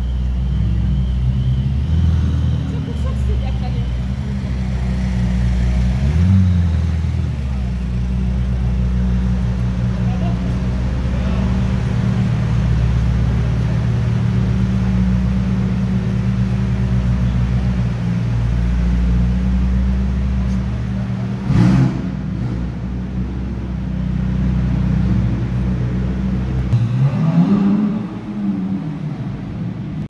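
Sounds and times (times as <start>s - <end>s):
car engine idling: 0.0s - 30.0s
engine revving: 0.4s - 30.0s.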